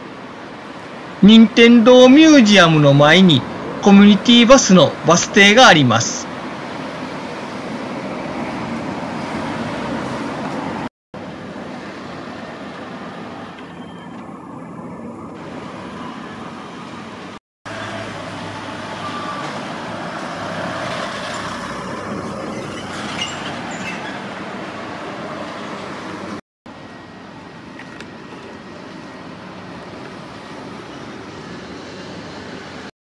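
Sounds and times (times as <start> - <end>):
road vehicles passing: 0.0 - 32.9.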